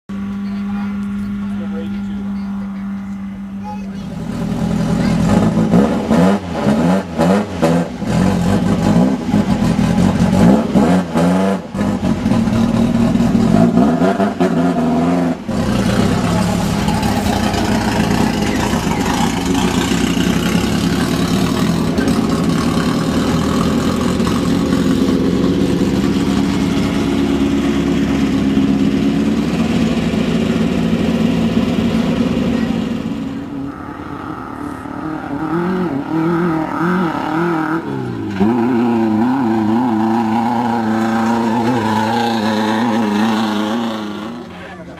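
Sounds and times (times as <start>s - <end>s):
buggy engine revving: 0.1s - 44.9s.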